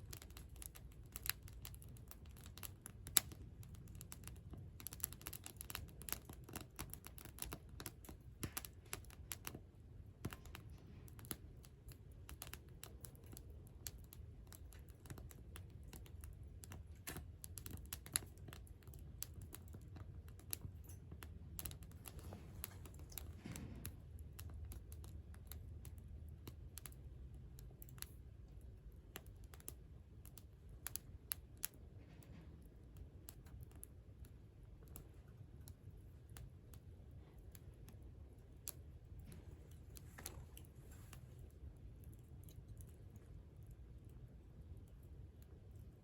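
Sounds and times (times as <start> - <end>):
campfire crackling: 0.0 - 31.9, 32.6 - 44.2
low steady rumble: 0.0 - 46.0.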